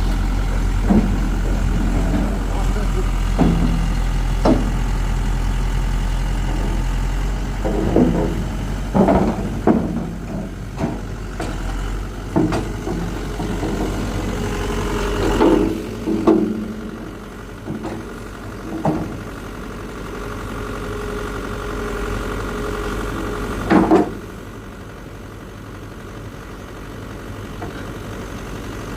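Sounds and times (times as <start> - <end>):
diesel excavator engine idling: 0.0 - 28.9.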